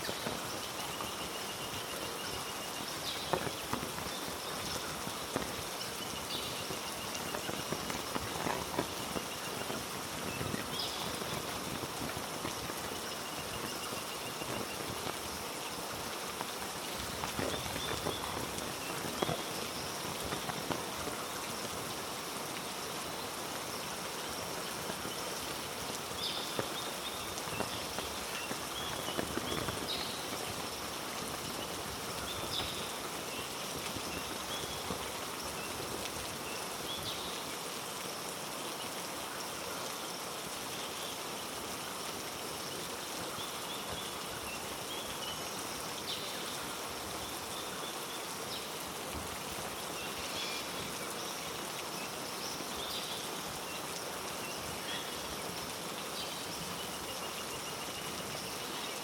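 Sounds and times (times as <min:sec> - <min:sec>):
heavy rain on foliage: 0:00.0 - 0:59.0.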